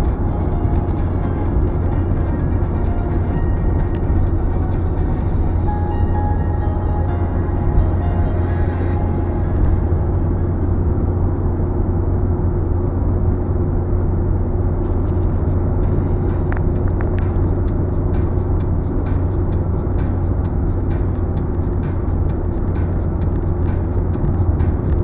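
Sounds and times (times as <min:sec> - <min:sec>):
tyre and engine rumble: 0:00.0 - 0:25.0.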